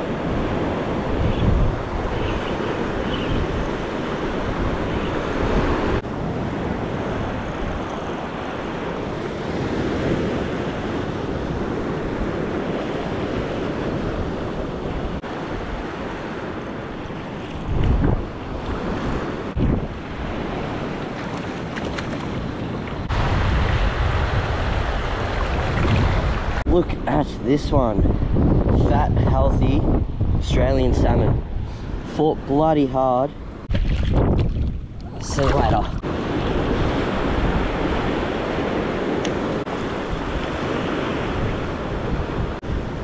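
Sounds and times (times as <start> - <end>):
wind on microphone: 0.0 - 32.2, 33.4 - 43.0.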